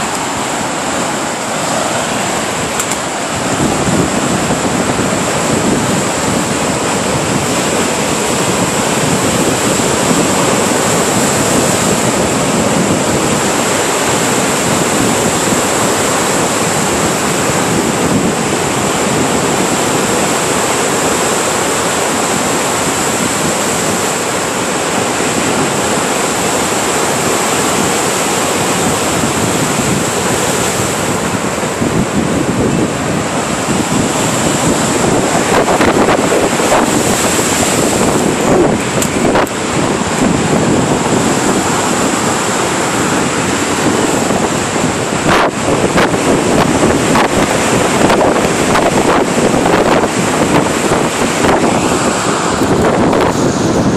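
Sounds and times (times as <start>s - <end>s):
waves breaking on shore: 0.0s - 53.9s
wind on microphone: 0.0s - 53.9s.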